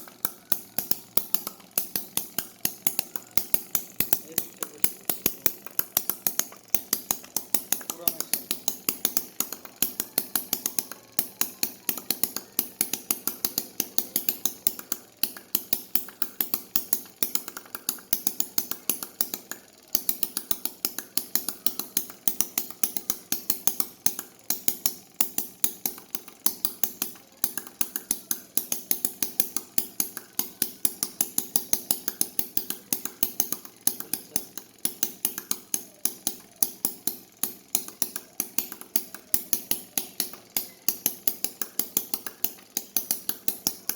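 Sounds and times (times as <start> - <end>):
miniature engine clacking: 0.0 - 43.9.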